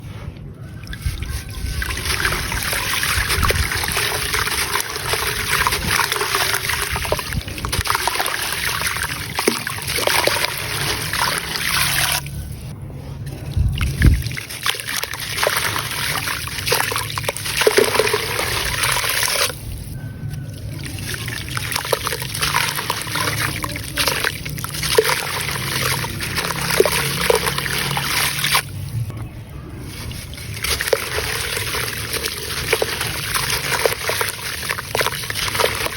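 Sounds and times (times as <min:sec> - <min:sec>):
crumbling cement fizzing in water: 0:00.9 - 0:12.3, 0:13.9 - 0:19.7, 0:20.8 - 0:28.8, 0:29.8 - 0:35.9.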